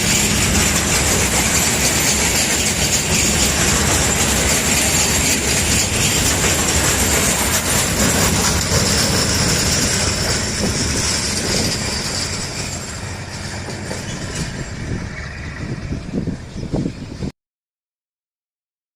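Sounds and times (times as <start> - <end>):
high squeal: 0.0 - 16.8
train wheels rumbling on rails: 0.0 - 17.3.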